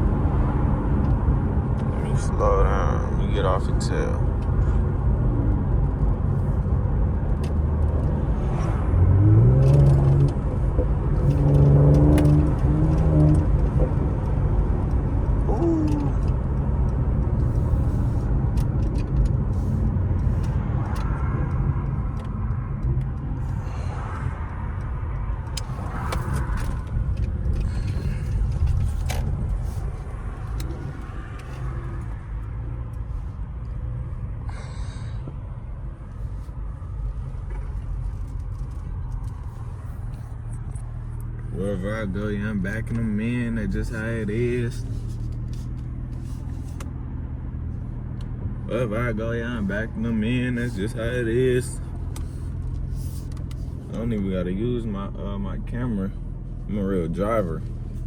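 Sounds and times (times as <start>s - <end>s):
road noise: 0.0s - 58.0s
turbocharged engine driving: 0.0s - 58.0s.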